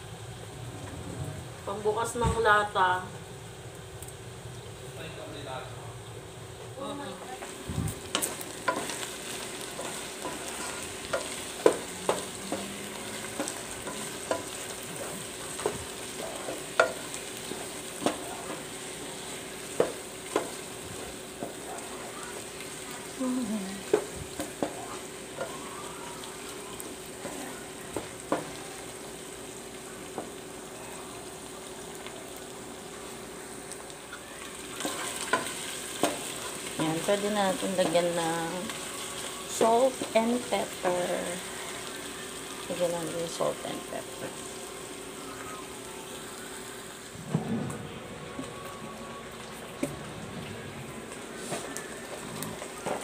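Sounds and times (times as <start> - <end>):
food sizzling in oil: 6.0 - 53.0.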